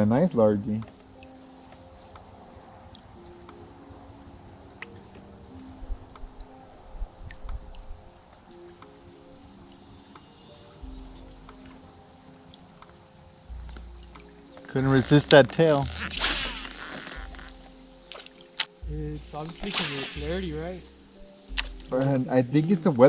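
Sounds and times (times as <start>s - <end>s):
faint music: 0.0s - 23.0s
insects chirring: 0.0s - 23.0s.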